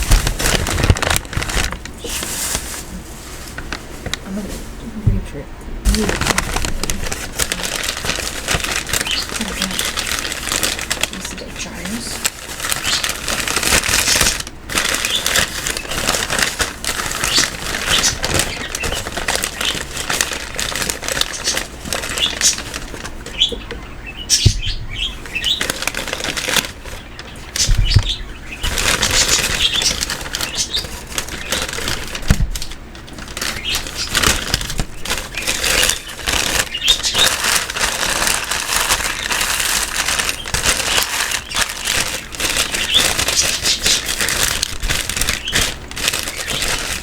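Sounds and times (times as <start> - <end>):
packaging rustling and crinkling: 0.0 - 4.9, 5.8 - 47.0.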